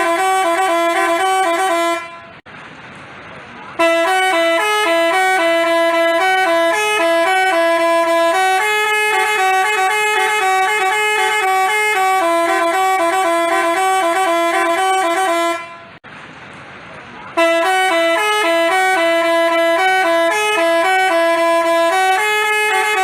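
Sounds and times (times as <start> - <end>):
bus horn playing a melody: 0.0 - 2.4, 3.7 - 16.0, 17.3 - 23.0.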